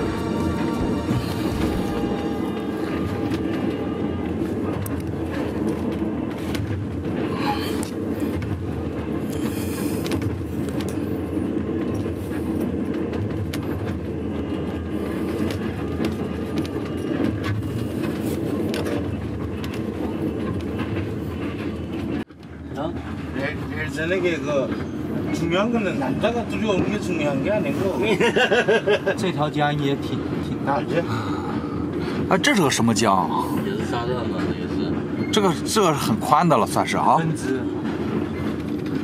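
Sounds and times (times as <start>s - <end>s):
train clicks: 0.0s - 39.0s
train rumble: 0.0s - 39.0s.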